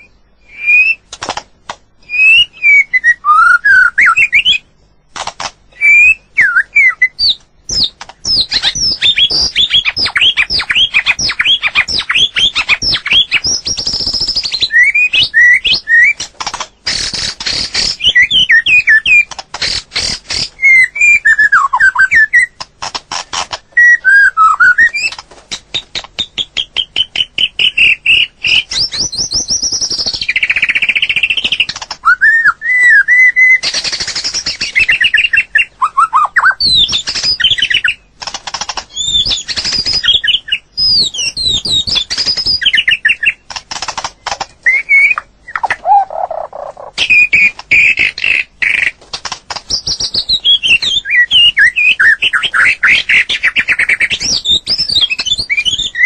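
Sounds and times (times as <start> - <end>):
bird singing varied song: 0.0 - 1.2, 1.9 - 5.1, 5.7 - 22.7, 23.5 - 38.2, 38.8 - 56.0.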